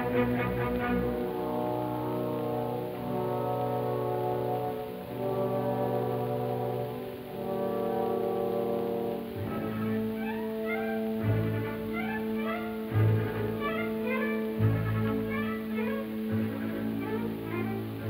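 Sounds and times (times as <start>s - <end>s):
orchestra with brass chords: 0.0s - 18.0s
recording hiss: 0.0s - 18.0s.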